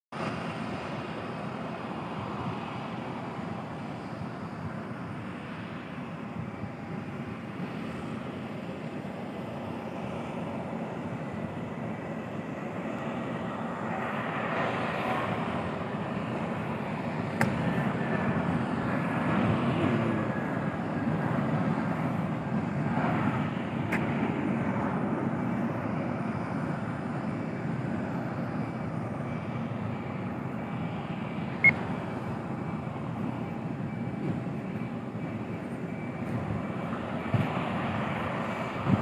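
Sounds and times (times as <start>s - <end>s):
aircraft engine rushing: 0.1s - 39.0s.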